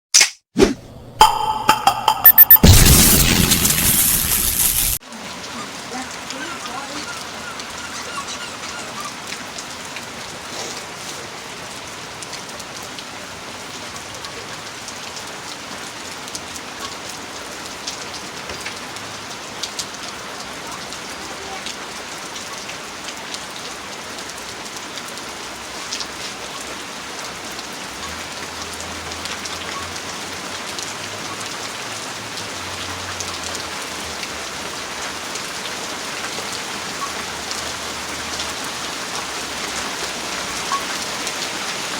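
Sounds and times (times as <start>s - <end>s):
heavy rain: 2.3s - 41.9s.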